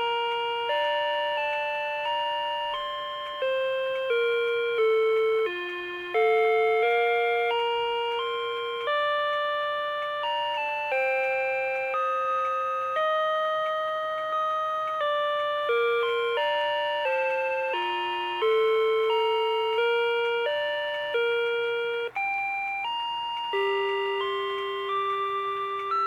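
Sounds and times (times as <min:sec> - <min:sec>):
alarm clock melody: 0:00.0 - 0:26.0.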